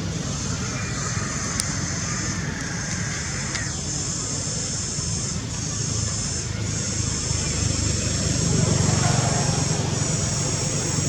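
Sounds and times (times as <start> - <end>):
high-pitched drone: 0.0 - 11.0.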